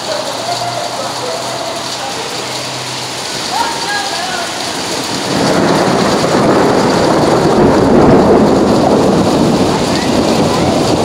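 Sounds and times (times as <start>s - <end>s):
rain on wet pavement: 0.0s - 11.0s
thunder rumbling: 0.0s - 11.0s.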